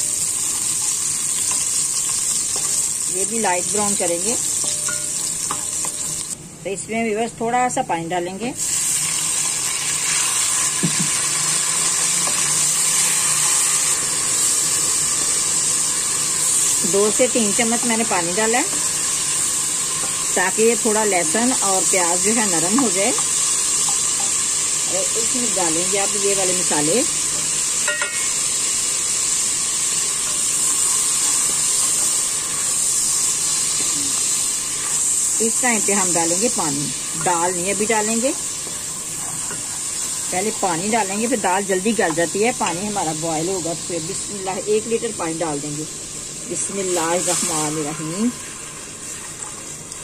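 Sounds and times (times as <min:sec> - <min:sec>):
garlic and onion sizzling in oil: 0:00.0 - 0:50.0
steam hissing: 0:08.6 - 0:50.0.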